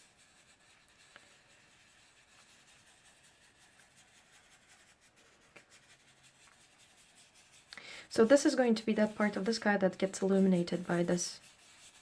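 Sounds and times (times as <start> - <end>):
pastel rubbing on paper: 0.0 - 12.0.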